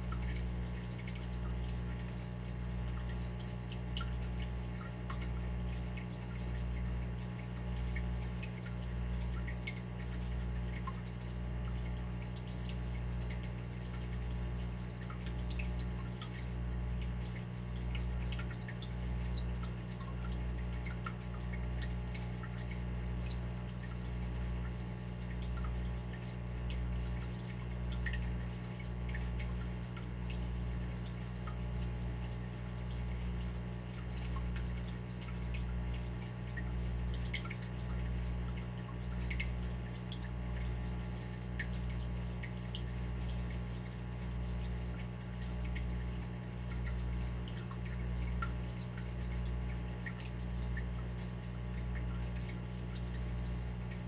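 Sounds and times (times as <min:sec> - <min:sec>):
water drips: 0:00.0 - 0:54.0.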